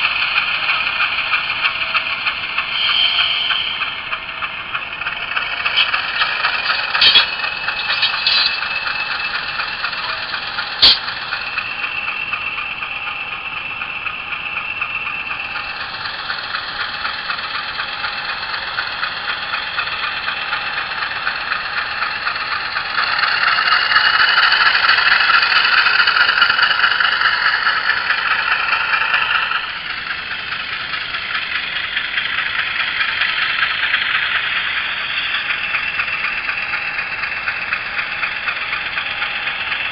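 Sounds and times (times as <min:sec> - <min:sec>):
diesel engine through small speaker: 0:00.0 - 0:39.9.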